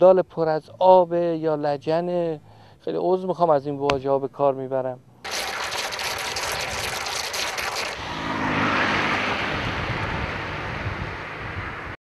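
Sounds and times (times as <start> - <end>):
outdoor street ambience: 0.0 - 12.0.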